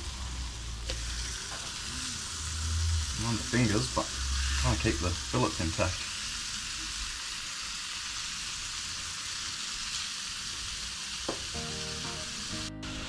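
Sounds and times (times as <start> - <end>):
fish sizzling on a grill: 0.0 - 13.0.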